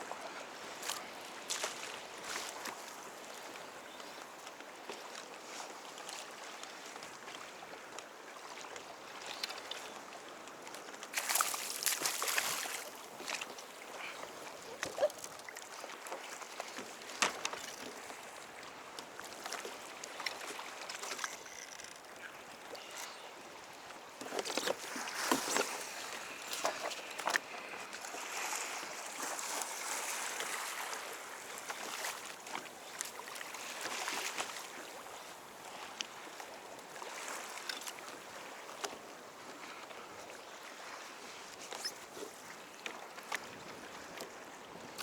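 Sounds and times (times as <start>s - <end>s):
water splashing around kayak: 0.0s - 45.0s.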